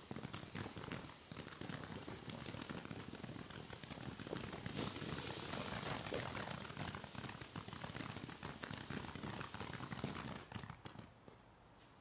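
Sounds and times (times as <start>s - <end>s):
firework fountain fizzing crackle: 0.0s - 11.2s.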